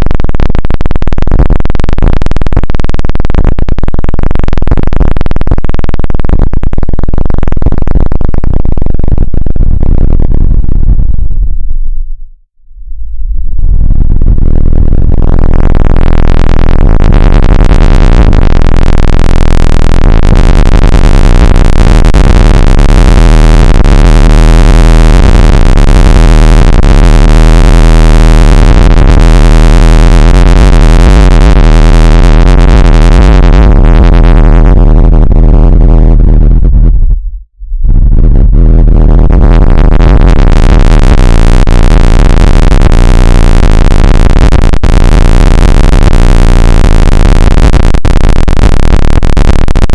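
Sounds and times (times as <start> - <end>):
harsh distorted electronic noise: 0.0 - 11.8, 13.2 - 49.9
heavy low bass drone: 7.2 - 48.7.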